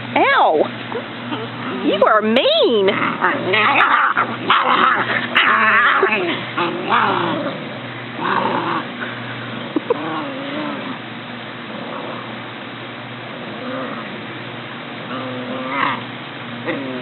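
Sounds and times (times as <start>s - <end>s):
puppies growling and yipping: 0.2s - 17.0s.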